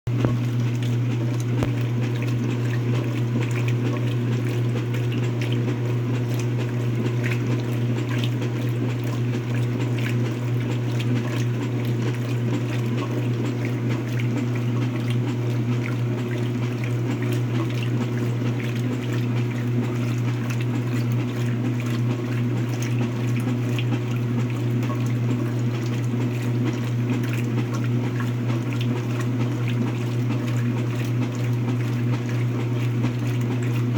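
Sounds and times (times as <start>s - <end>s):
washing machine humming: 0.1s - 33.9s
water noise: 0.1s - 33.9s.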